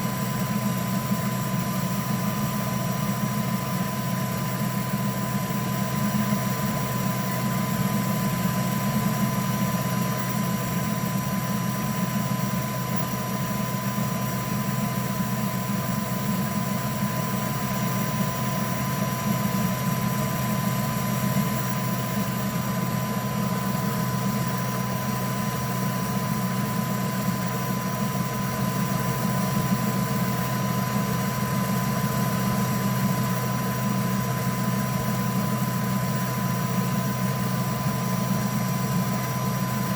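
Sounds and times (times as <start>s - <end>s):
printer fans and motors humming: 0.0s - 39.9s.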